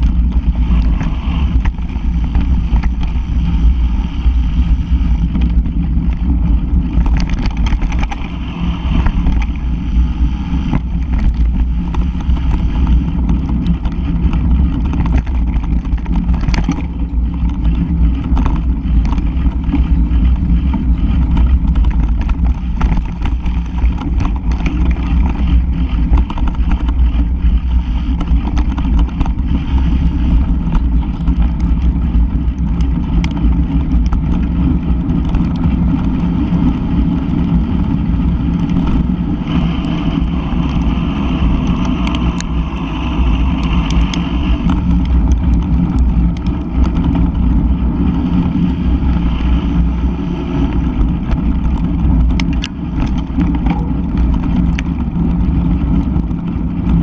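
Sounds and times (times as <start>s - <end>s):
stones and bike rattling: 0.0s - 57.0s
wind and tyre rumble: 0.0s - 57.0s.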